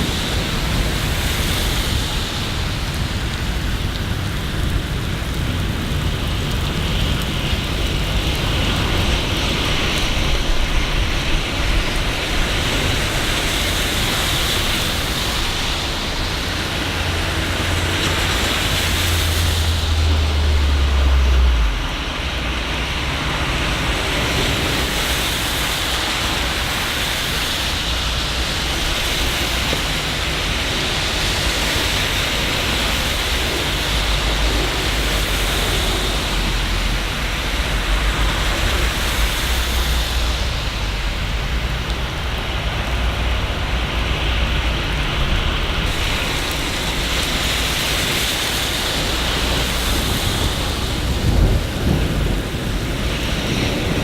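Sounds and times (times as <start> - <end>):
steady rain on street: 0.0 - 54.0.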